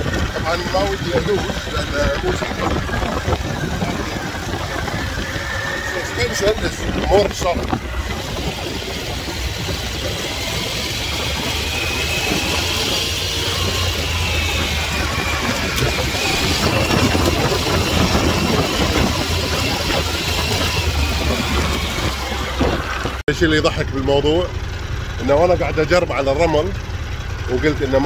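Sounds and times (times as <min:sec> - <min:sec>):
high whine: 0:00.0 - 0:24.6
motorcycle engine running: 0:00.0 - 0:28.0
wind and tyre noise: 0:00.0 - 0:28.0.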